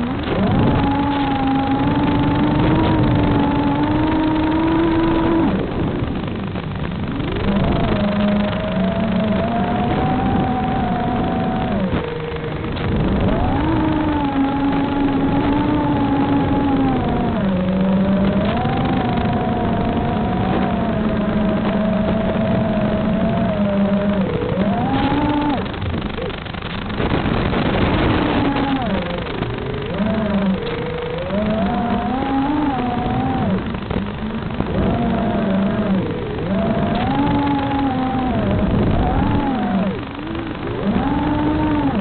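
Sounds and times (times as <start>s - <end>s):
model aircraft motor whining: 0.0s - 42.0s
wind buffeting microphone: 0.0s - 42.0s.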